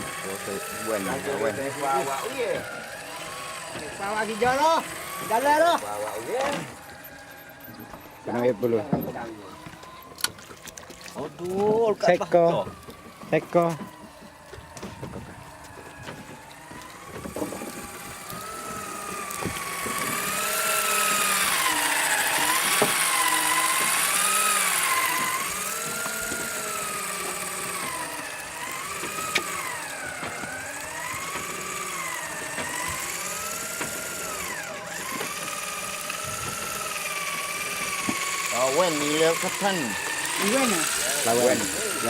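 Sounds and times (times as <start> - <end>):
fishing reel motor whining: 0.0 - 42.0.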